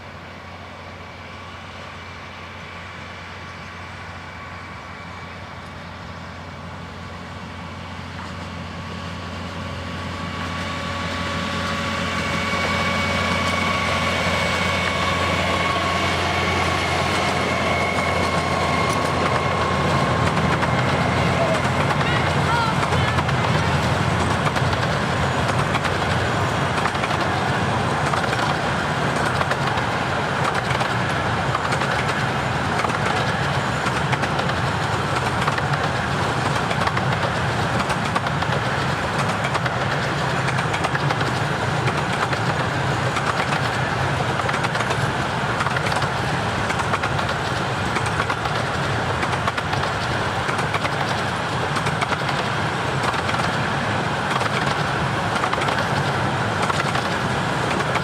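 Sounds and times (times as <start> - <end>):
railway coaches rolling on rails: 0.0 - 58.0.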